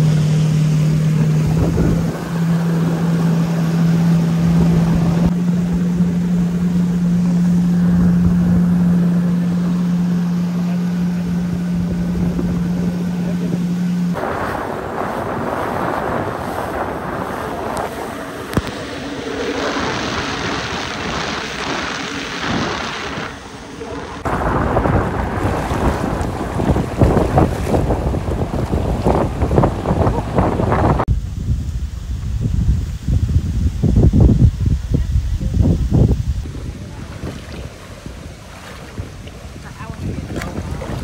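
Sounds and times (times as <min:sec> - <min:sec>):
jet ski engine drone: 0:00.0 - 0:41.0
water rushing and splashing: 0:00.0 - 0:41.0
wind buffeting microphone: 0:00.0 - 0:41.0.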